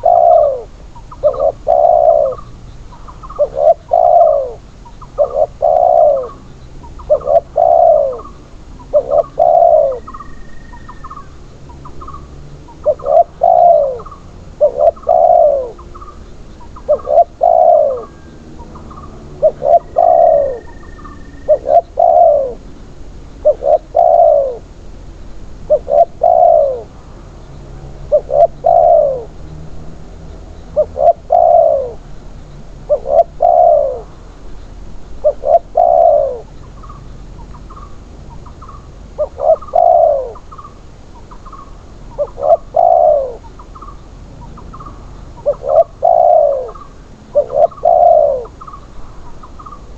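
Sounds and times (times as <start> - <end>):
dove cooing: 0.0 - 24.9, 25.5 - 27.0, 28.0 - 29.4, 30.3 - 49.9.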